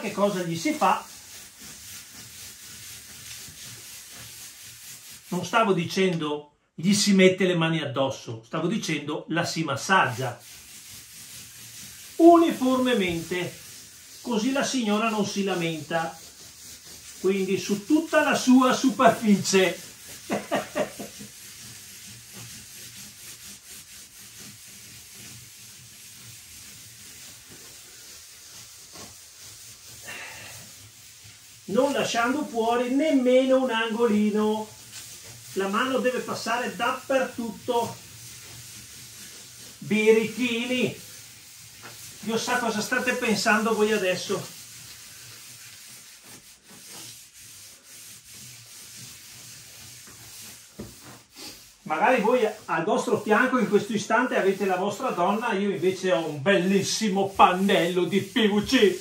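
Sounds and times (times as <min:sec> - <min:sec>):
hands rubbing plastic sheet: 0:00.0 - 0:06.2, 0:09.5 - 0:59.0.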